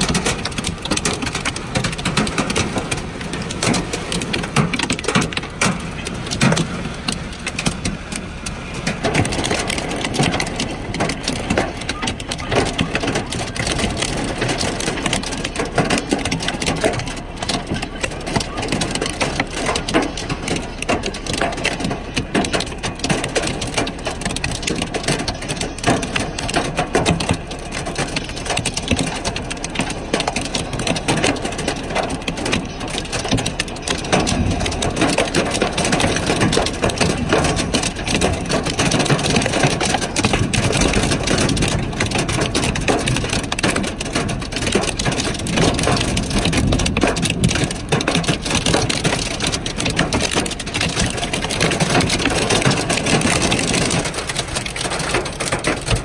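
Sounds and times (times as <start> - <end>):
hailstones clattering: 0.0 - 56.0
rain hissing: 0.0 - 56.0.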